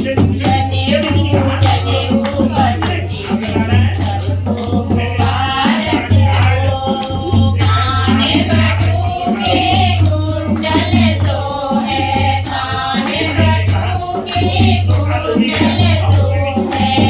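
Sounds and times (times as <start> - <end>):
folk song singing: 0.0 - 17.0
steady drum beat: 0.0 - 17.0.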